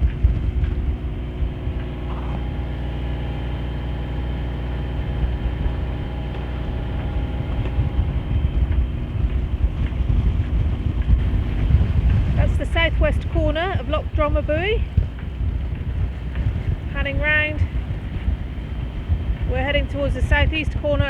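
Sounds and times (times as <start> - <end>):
boat engine running: 0.0 - 21.0
wind on microphone: 0.0 - 21.0.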